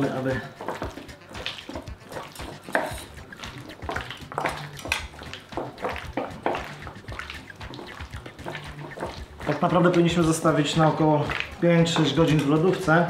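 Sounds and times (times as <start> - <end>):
wet squelches of mixing marinade: 0.0 - 13.0.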